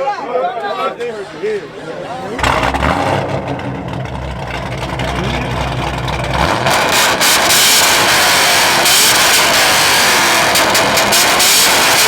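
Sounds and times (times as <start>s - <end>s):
car engine rumbling and revving: 2.2s - 12.0s.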